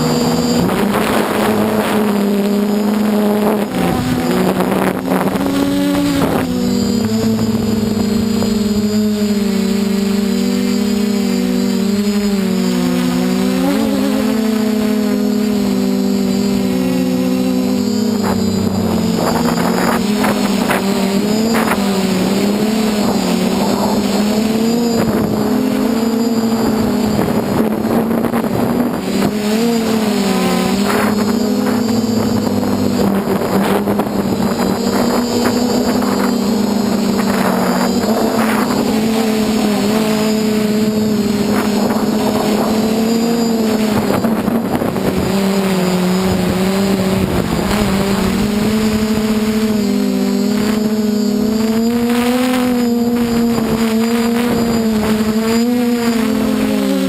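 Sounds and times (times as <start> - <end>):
wind gusts on microphone: 0.0 - 12.5, 13.2 - 57.0
drone motors whirring: 0.0 - 57.0.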